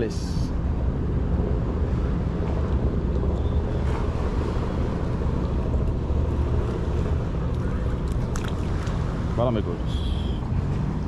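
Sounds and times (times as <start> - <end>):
boat motor: 0.0 - 11.0
wind rumble on microphone: 0.0 - 11.0.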